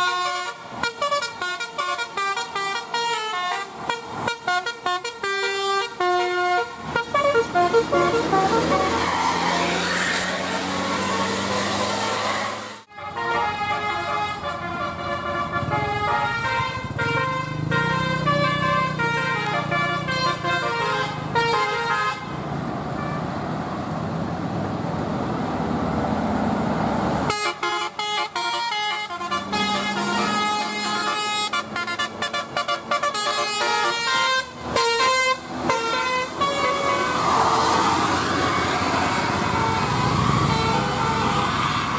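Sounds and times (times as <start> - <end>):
multi-tone bus horn melody: 0.0 - 23.4, 27.3 - 41.9
engine and road noise: 0.0 - 41.9.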